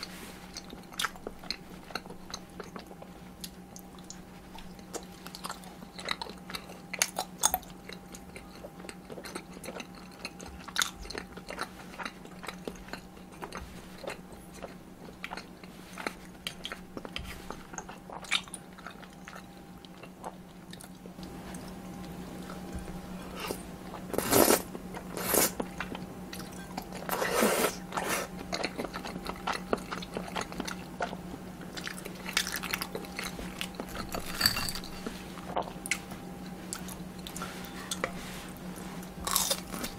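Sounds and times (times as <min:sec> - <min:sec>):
chewing and biting mouth noises: 0:00.0 - 0:39.9
faint steady hum: 0:00.0 - 0:39.9.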